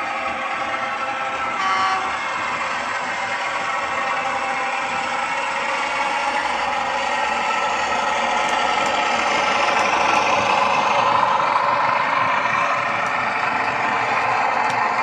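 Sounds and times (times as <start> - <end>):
diesel locomotive engines through small speaker: 0.0 - 15.0.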